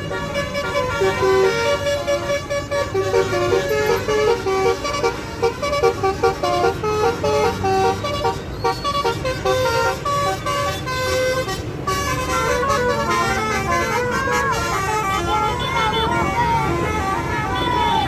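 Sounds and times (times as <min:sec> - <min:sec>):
multi-tone air horn tune: 0:00.0 - 0:18.0.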